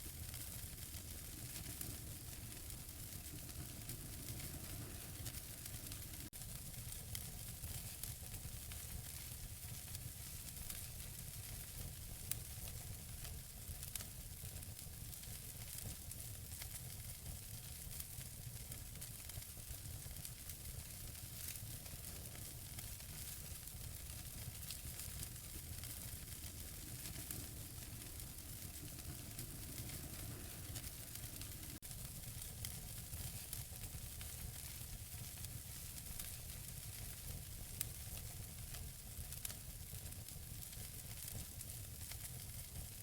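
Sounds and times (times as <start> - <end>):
burning logs crackling and popping: 0.0 - 43.0
wood fire hissing: 0.0 - 43.0.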